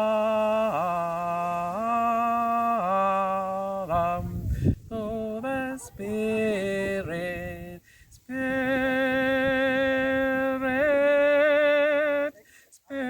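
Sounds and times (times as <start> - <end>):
person singing a hymn: 0.0 - 13.0.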